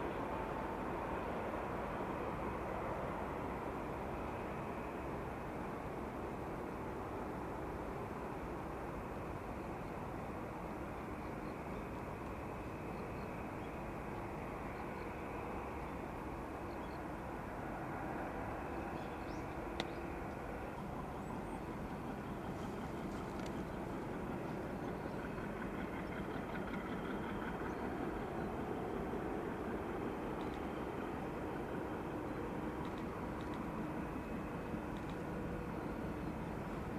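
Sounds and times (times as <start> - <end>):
distant jet engine rumble: 0.0 - 36.9.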